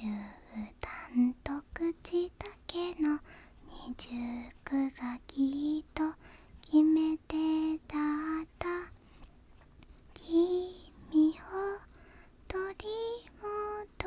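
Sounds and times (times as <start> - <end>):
person singing softly: 0.0 - 9.1, 10.0 - 14.0.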